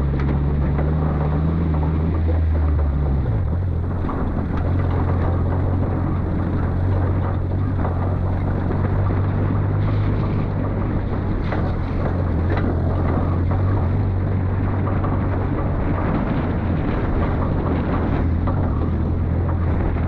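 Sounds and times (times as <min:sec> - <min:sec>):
rough rumbling: 0:00.0 - 0:20.0
vehicle engine droning: 0:00.0 - 0:20.0.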